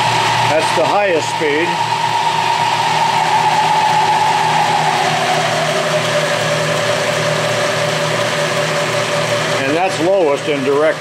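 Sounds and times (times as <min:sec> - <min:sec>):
machine running hum: 0:00.0 - 0:11.0
milling machine whine sliding lower: 0:00.0 - 0:11.0.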